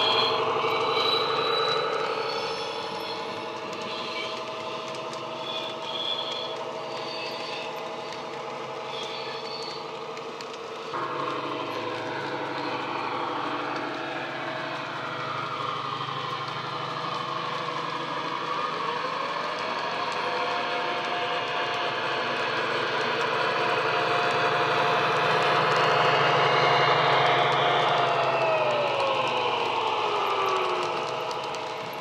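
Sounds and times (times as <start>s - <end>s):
model train diesel engine sound: 0.0s - 32.0s
rising whine: 0.0s - 32.0s.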